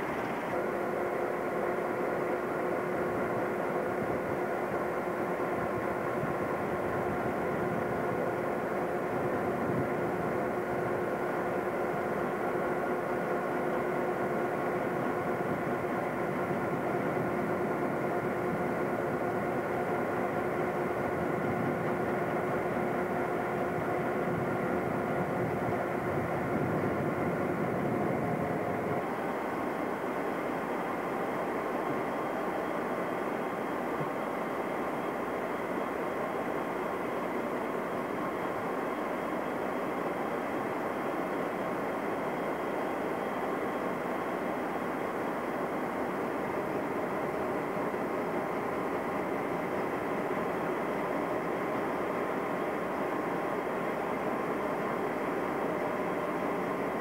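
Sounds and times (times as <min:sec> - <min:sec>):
diesel locomotive engines rumbling: 0:00.0 - 0:57.0.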